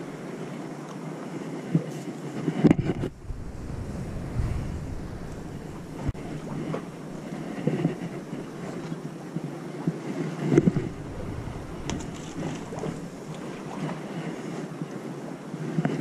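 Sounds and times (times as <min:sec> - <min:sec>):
waves lapping against rocks: 0:02.2 - 0:16.0
wind buffeting microphone: 0:02.6 - 0:16.0.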